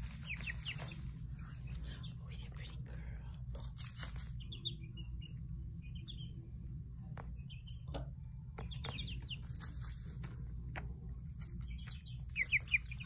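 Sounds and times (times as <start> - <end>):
chicks peeping: 0.0 - 13.0
steady low hum: 0.0 - 13.0.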